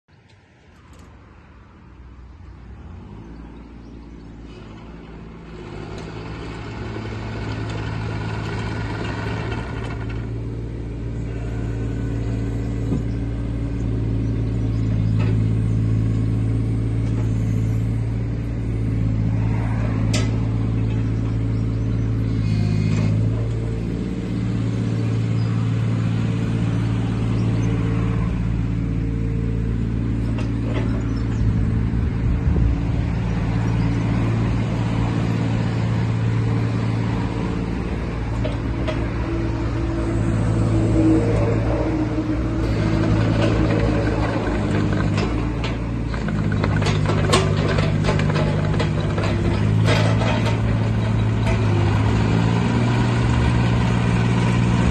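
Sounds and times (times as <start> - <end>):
mini excavator diesel engine: 0.2 - 54.9.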